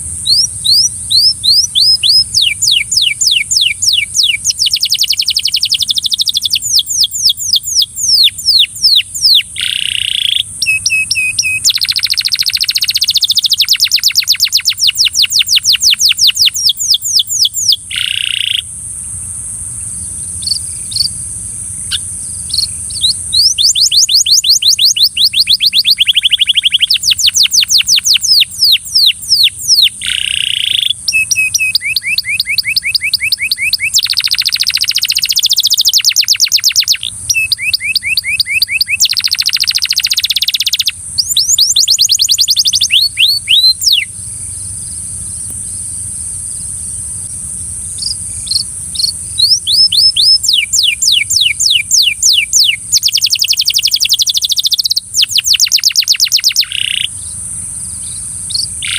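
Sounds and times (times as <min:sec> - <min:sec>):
canary singing trills: 0:00.0 - 0:19.2, 0:19.8 - 0:45.9, 0:47.8 - 0:58.9
steady high-pitched hiss: 0:00.0 - 0:58.9.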